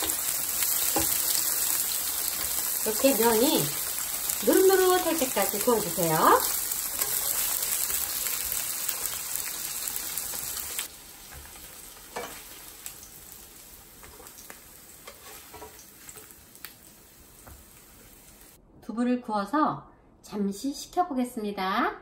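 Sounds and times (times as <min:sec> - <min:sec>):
tofu sizzling in oil: 0:00.0 - 0:18.6.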